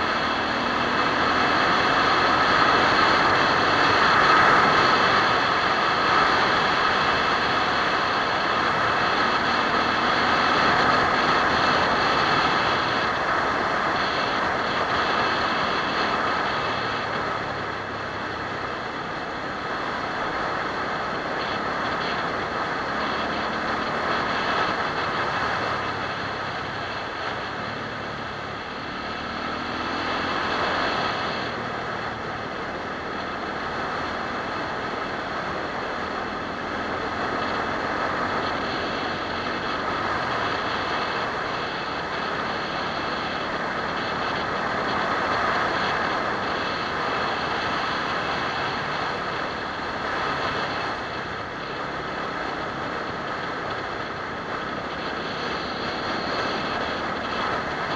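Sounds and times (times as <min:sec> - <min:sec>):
motorcycle engine running: 0:00.0 - 0:57.9
wind noise: 0:00.0 - 0:57.9.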